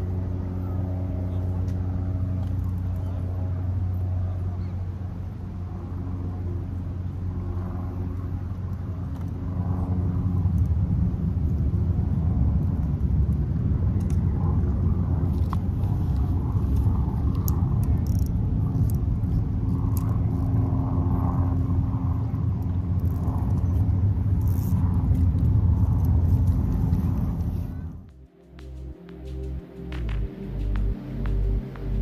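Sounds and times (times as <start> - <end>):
engine running low rumble: 0.0 - 32.0.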